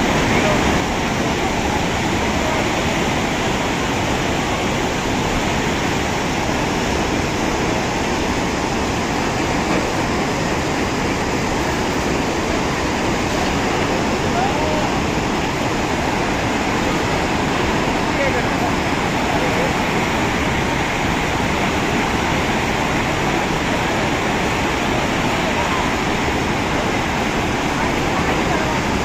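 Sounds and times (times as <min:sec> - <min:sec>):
flooded river rushing: 0:00.0 - 0:29.0.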